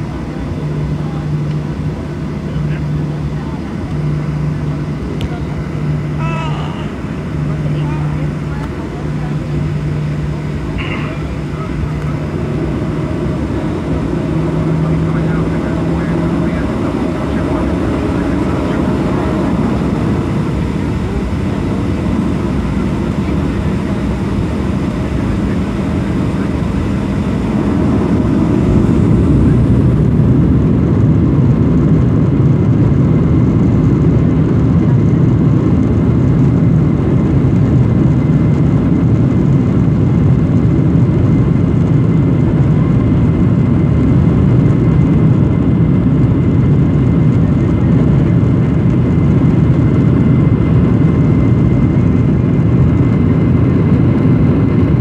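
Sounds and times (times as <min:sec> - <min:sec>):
faint engine whine: 0:00.0 - 0:55.0
jet engine rumble: 0:00.0 - 0:55.0.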